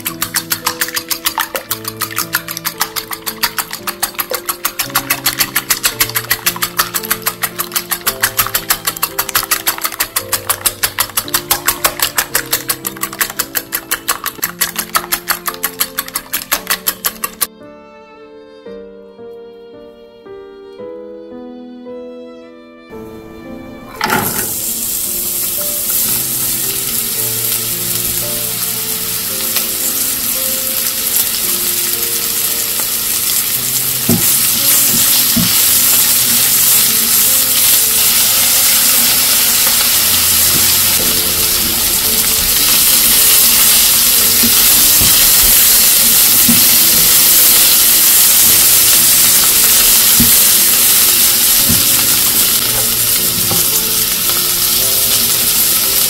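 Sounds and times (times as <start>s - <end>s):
onion sizzling in hot oil: 0.0s - 17.5s, 23.9s - 56.0s
spatula stirring in pan: 0.0s - 17.5s, 24.5s - 56.0s.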